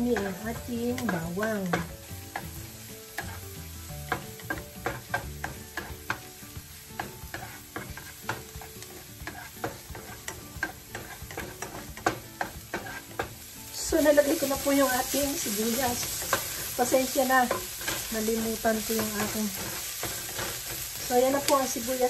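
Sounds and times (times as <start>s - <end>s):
garlic sizzling in oil: 0.0s - 22.0s
spatula scraping and tapping pan: 0.0s - 22.0s.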